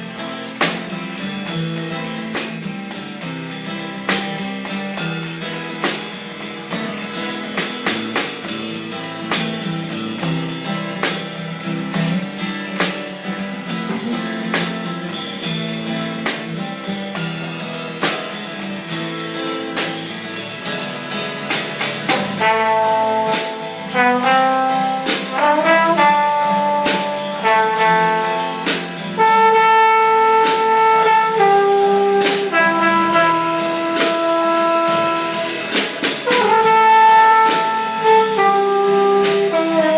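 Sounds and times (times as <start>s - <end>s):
live band music: 0.0s - 39.9s.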